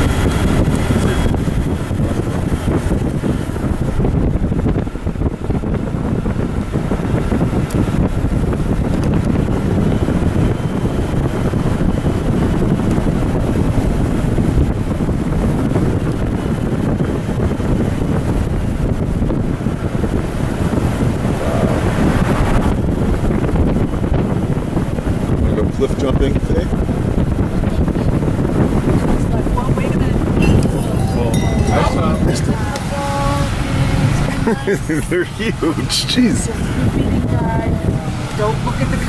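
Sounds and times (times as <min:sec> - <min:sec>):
car road and engine noise: 0:00.0 - 0:39.0
wind buffeting microphone: 0:00.0 - 0:39.0.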